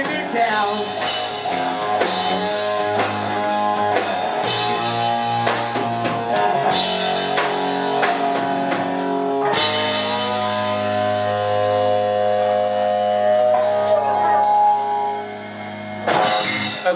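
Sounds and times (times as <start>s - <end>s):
drum kit beat: 0.0s - 16.9s
guitar chords ringing: 0.0s - 16.9s.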